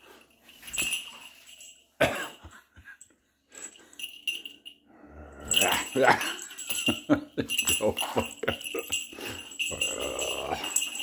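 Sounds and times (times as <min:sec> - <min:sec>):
collar bell jingling: 0:00.0 - 0:11.0.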